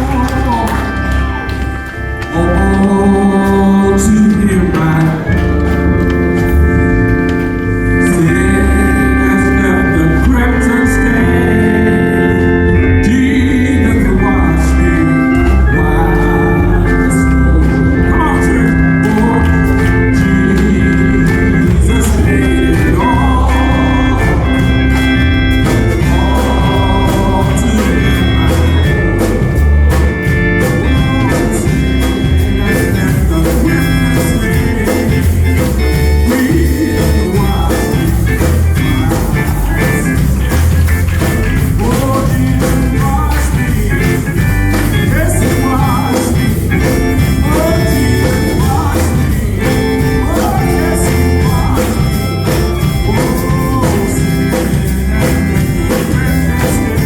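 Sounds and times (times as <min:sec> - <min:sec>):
gospel music with organ: 0:00.0 - 0:57.0
voices singing: 0:00.0 - 0:57.0.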